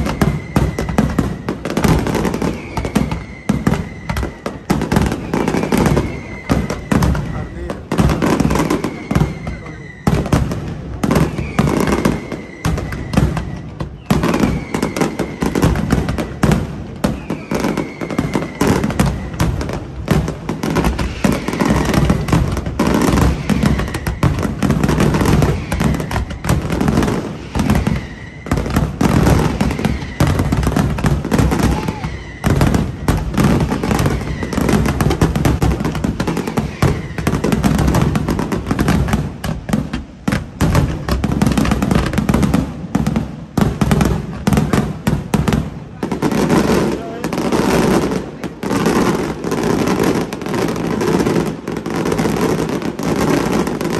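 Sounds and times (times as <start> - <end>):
falling firework whistles: 0.0 - 53.9
firecrackers crackling: 0.0 - 53.9.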